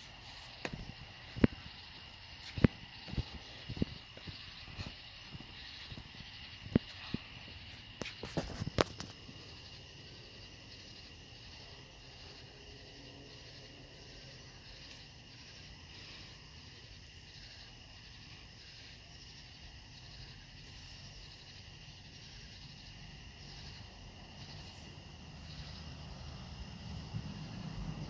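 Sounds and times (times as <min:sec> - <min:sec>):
night insects chirping: 0:00.0 - 0:28.0.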